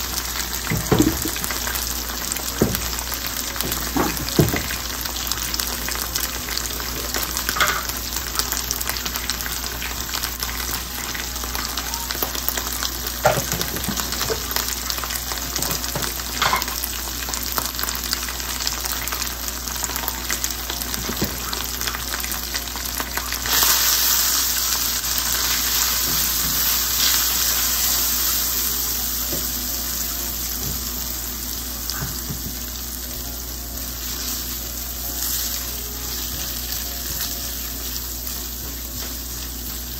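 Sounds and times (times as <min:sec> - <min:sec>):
onions sizzling in hot oil: 0:00.0 - 0:39.9.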